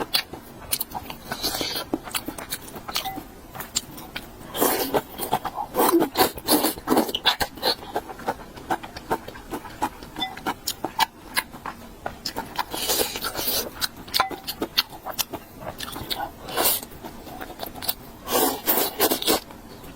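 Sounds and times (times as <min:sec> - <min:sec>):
person chewing crunchy food: 0:00.0 - 0:19.9.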